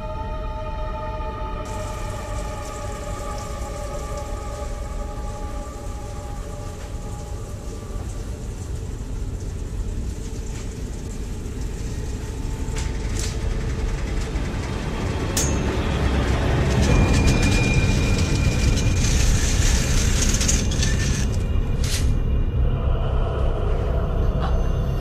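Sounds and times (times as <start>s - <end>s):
low rumbling drone: 0.0s - 25.0s.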